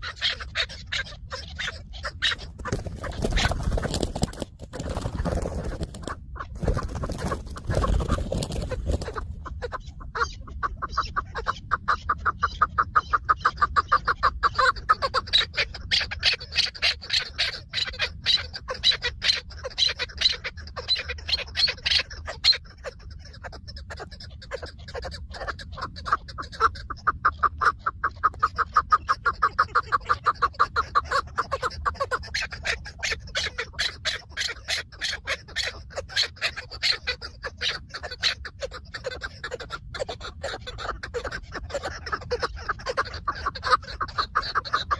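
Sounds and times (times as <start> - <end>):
partridge clucking calls: 0.0 - 44.9.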